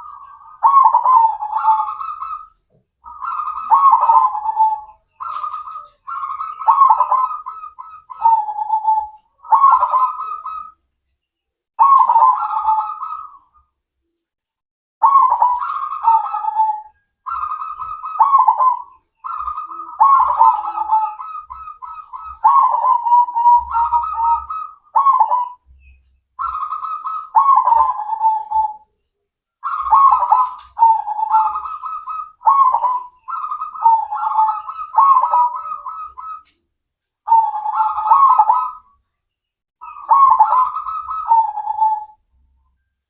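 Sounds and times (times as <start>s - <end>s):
dove cooing: 0.0s - 10.8s, 11.8s - 13.6s, 15.0s - 28.9s, 29.6s - 36.6s, 37.2s - 39.0s, 39.8s - 42.2s.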